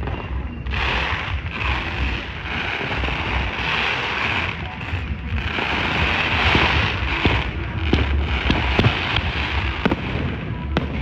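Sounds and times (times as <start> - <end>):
crowd voices: 0.0 - 11.0
fireworks crackling hiss: 0.0 - 11.0
low rumble: 0.0 - 11.0.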